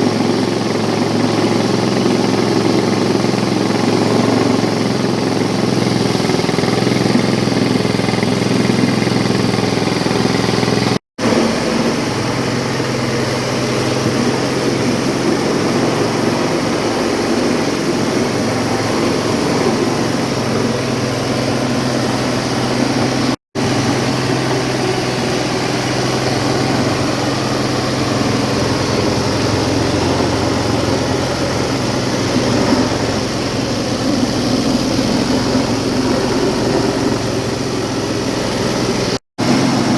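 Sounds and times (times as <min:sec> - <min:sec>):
low motor hum: 0:00.0 - 0:39.9
machine grinding noise: 0:00.0 - 0:39.9.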